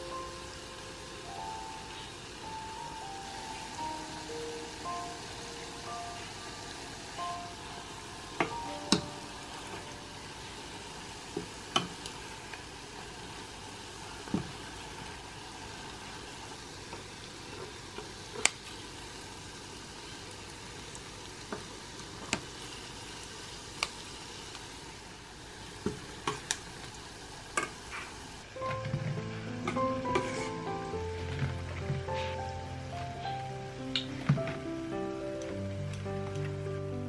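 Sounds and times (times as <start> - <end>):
oil sizzling: 0.0 - 37.0.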